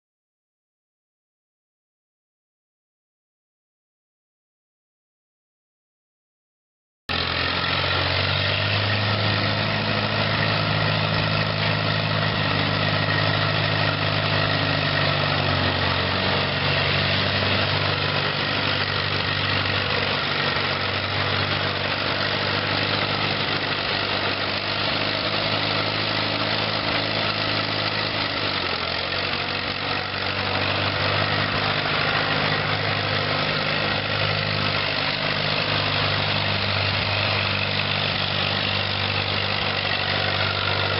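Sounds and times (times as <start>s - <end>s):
tractor engine running: 7.1s - 40.9s.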